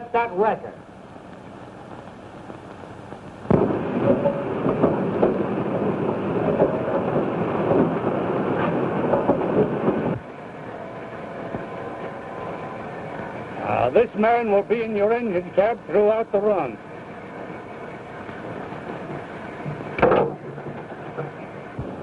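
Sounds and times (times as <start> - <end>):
train rumbling and hissing: 0.0 - 22.0.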